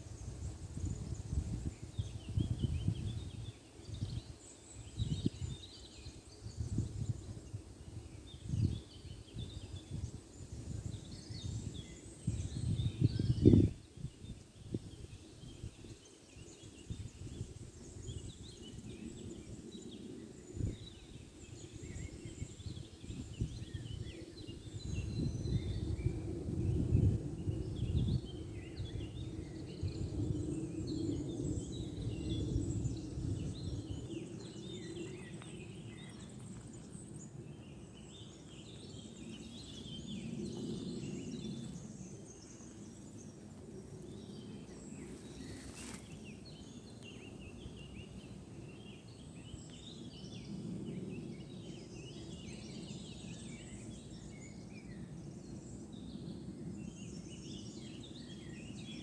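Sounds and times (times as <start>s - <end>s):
small birds chirping and singing: 0.1s - 59.0s.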